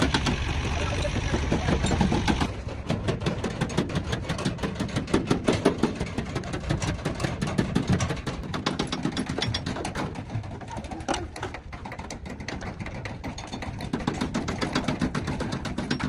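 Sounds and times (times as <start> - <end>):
engine chugging: 0.0 - 16.0.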